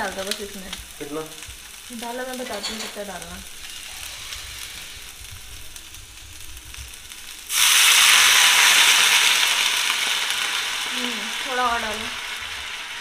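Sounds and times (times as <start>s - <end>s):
loud hiss of steam: 0.0s - 13.0s
vegetables sizzling in oil: 0.0s - 13.0s
water poured into hot pan: 0.0s - 13.0s.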